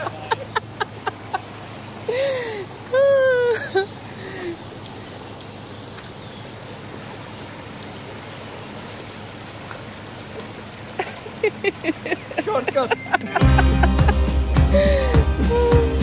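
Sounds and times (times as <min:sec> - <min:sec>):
river running over stones: 0:00.0 - 0:16.0.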